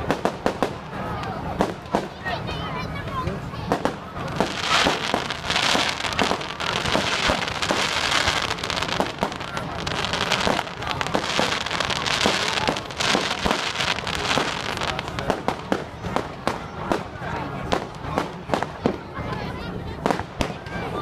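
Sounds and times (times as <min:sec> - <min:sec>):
fireworks crackling and banging: 0:00.0 - 0:21.0.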